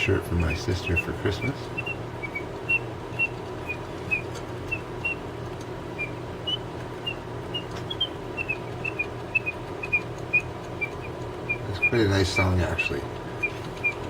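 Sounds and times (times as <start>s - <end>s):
steady low hum: 0.0s - 14.0s
mechanical bird whistle chirping: 0.4s - 5.3s, 5.9s - 14.0s.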